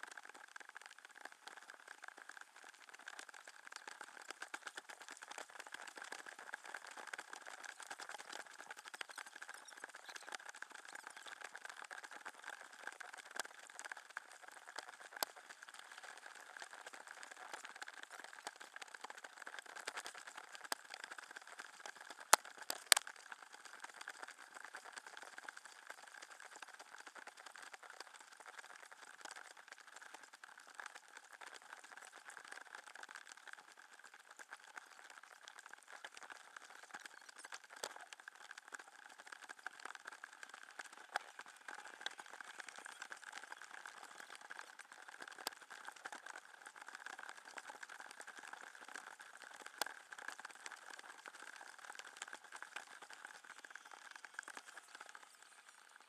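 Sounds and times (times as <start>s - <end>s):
small clicks: 0.0s - 56.0s.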